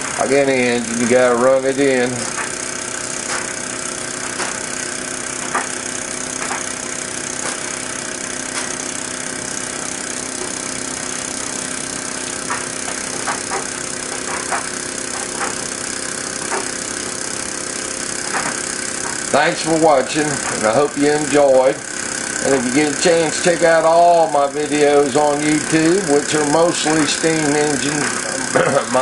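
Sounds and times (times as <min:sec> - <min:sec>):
steam engine humming and hissing: 0:00.0 - 0:29.0.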